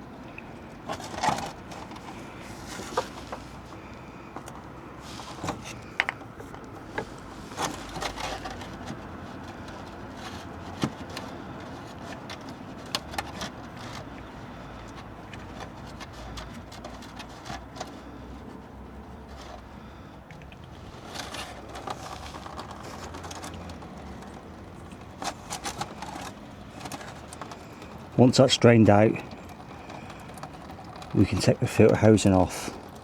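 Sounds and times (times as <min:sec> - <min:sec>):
faint steady background noise: 0:00.0 - 0:33.0.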